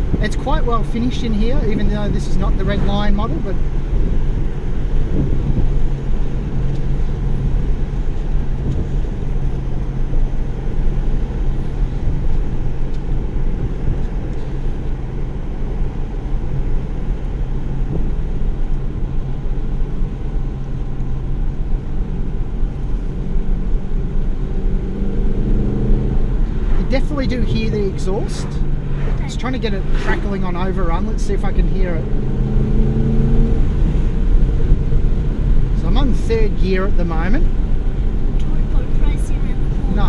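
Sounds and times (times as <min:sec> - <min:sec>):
car engine drone: 0:00.0 - 0:40.0
road and tyre noise: 0:00.0 - 0:40.0.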